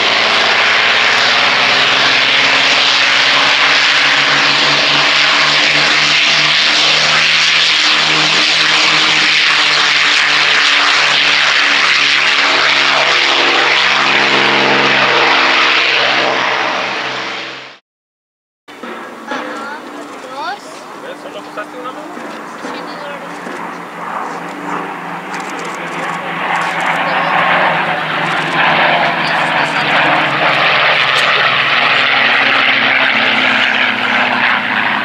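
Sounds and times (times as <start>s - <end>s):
propeller plane engine at takeoff power: 0.0s - 17.8s, 18.7s - 35.0s.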